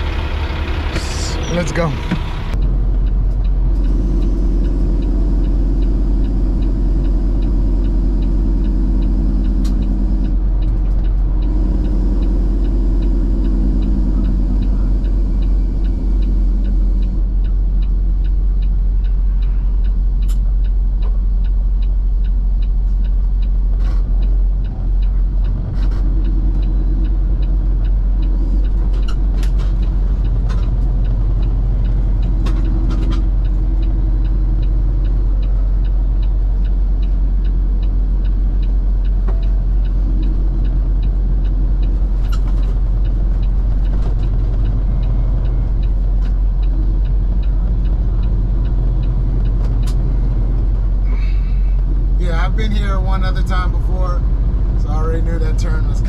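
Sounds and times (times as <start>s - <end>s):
road noise: 0.0s - 56.0s
truck diesel engine rumbling: 0.0s - 56.0s.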